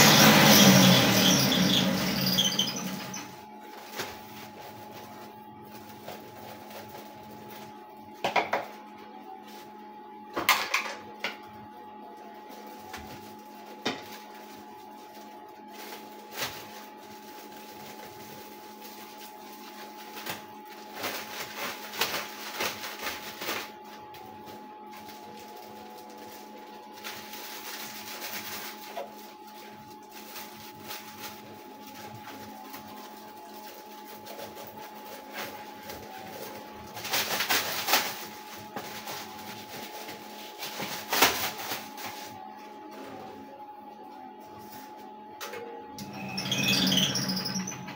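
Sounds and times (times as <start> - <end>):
cotton candy machine motor hum: 0.0 - 47.9.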